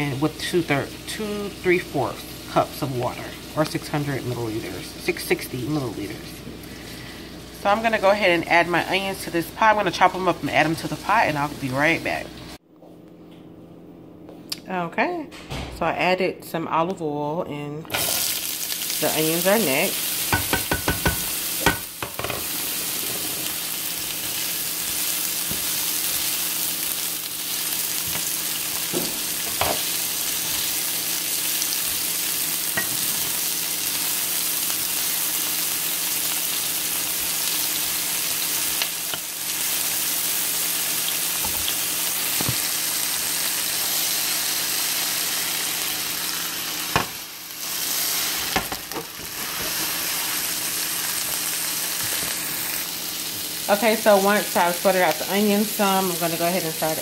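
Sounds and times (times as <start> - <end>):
onions sizzling in a frying pan: 0.0 - 12.6, 17.9 - 57.0.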